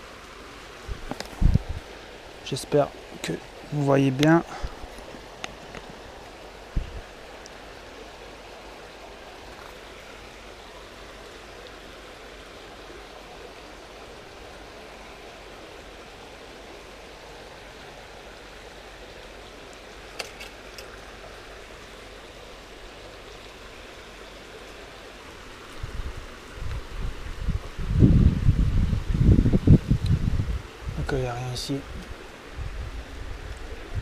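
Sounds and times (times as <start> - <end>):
river water rushing: 0.0 - 34.0.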